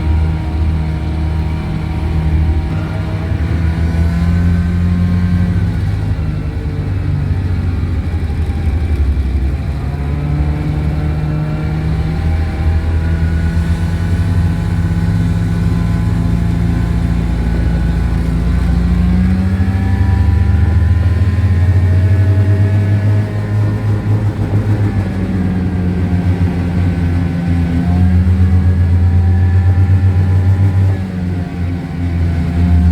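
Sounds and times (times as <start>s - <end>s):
small truck engine revving: 0.0s - 32.9s.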